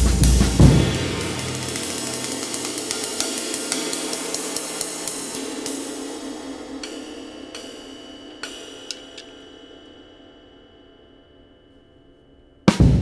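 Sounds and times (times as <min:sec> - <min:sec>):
ride cymbal played with stick: 0:00.0 - 0:11.8.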